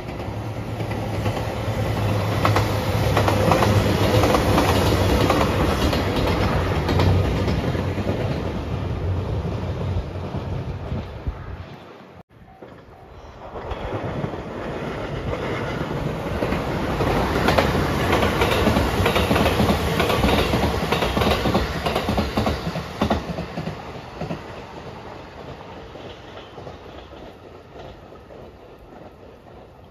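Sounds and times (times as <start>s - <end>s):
wheels clicking over rail joints: 0.0s - 8.6s, 12.4s - 29.9s
electric train passing: 0.0s - 29.9s.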